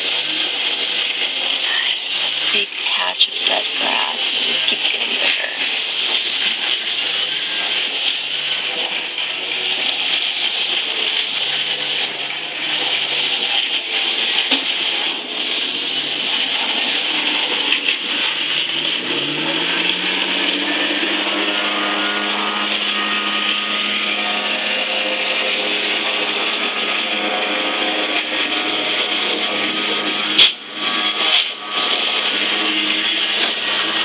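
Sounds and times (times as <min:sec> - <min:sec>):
leaf blower engine running: 0:00.0 - 0:34.0.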